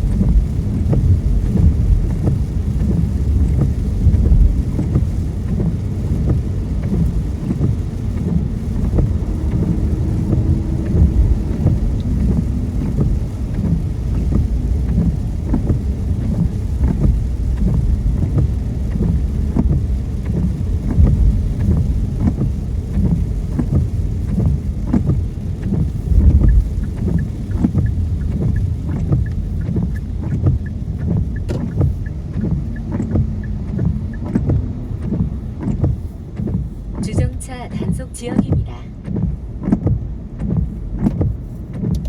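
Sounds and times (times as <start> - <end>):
car road and engine rumble: 0.0 - 42.0
raindrops ticking on car: 0.0 - 42.0.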